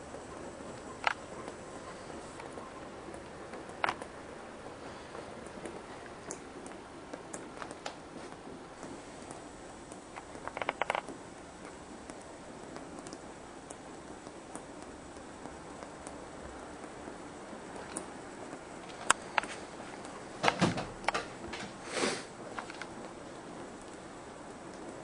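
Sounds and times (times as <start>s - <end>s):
drops ticking: 0.0s - 21.6s
steady rain: 0.0s - 25.0s.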